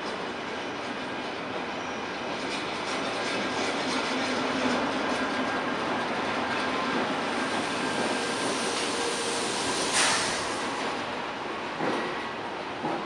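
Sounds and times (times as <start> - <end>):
train rolling past: 0.0 - 13.0.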